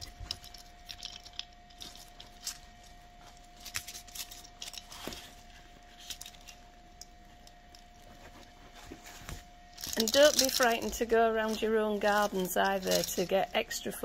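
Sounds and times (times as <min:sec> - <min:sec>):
rustling and crackling of sprigs: 0:00.0 - 0:14.0.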